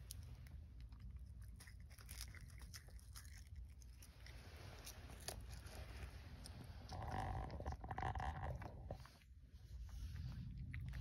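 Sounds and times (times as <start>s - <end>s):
cat crunching food: 0.0s - 9.3s.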